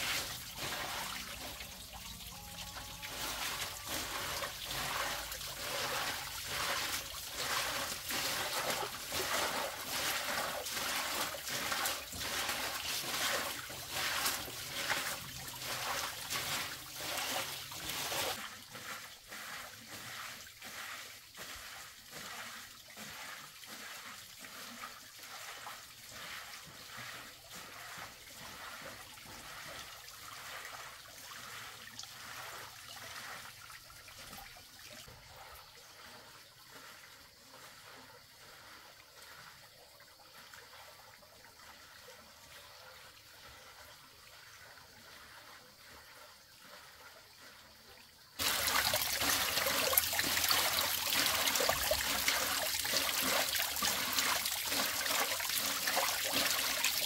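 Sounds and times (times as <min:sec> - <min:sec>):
water splashing and trickling: 0:00.0 - 0:57.0.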